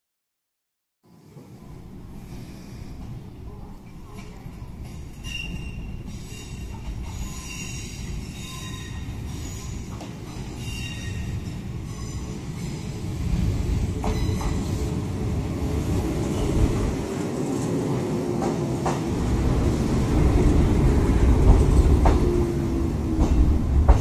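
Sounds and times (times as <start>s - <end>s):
train wheels rumbling on rail: 2.0s - 24.0s.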